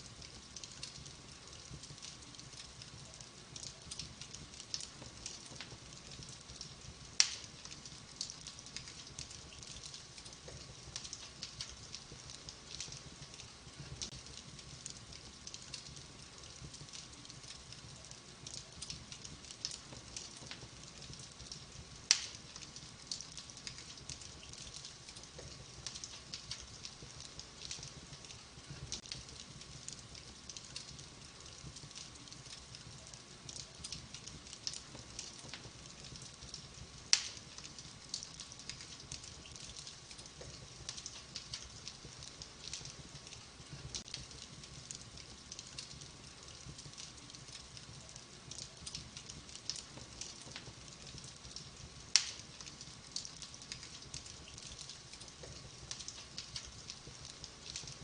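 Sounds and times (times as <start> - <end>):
wood fire crackling: 0.0 - 58.0
loud fire pops: 0.2 - 47.7, 48.5 - 58.0.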